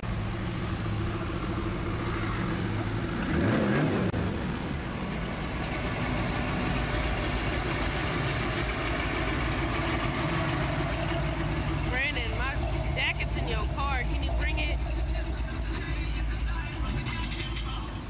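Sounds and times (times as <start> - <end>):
car engine rumbling: 0.0 - 18.0
engine revving: 0.0 - 18.0.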